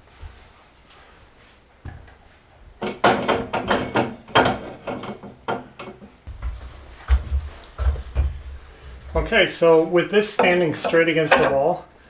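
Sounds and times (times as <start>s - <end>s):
loft ladder knocks and rattles: 1.8s - 11.9s.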